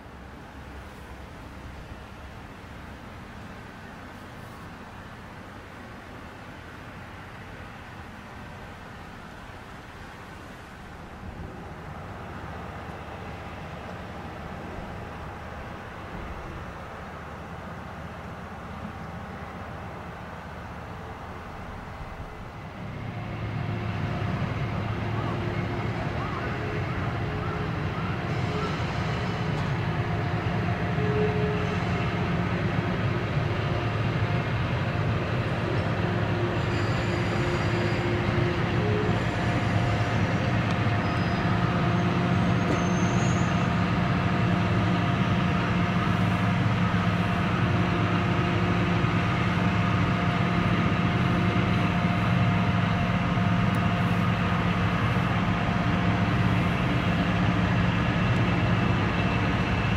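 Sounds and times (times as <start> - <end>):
diesel train low hum: 0.0 - 59.9.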